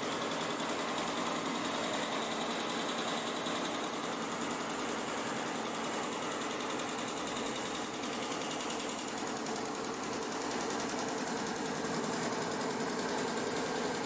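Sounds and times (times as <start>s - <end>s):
embroidery machine stitching: 0.0s - 14.0s.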